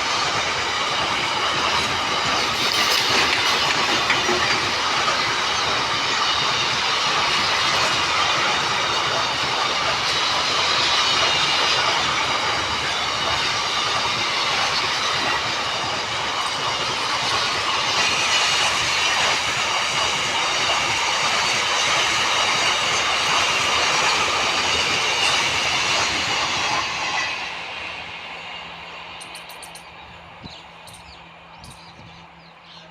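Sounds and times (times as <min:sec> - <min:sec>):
train wheels rumbling and clattering: 0:00.0 - 0:32.9.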